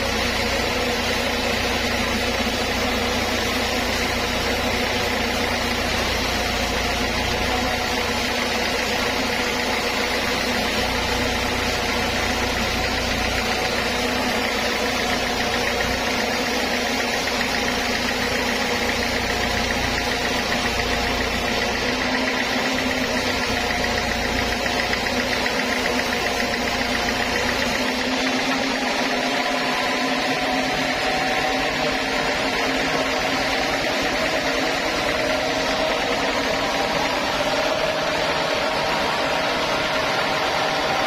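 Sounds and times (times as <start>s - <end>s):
band sawmill cutting log: 0.0s - 41.0s.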